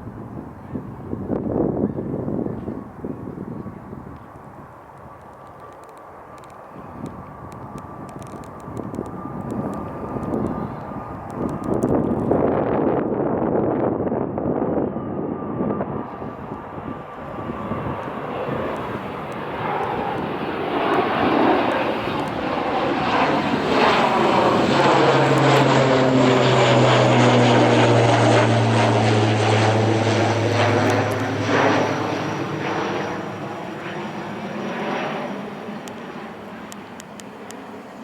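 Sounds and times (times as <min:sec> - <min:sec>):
aircraft engine passing by: 0:00.0 - 0:38.0.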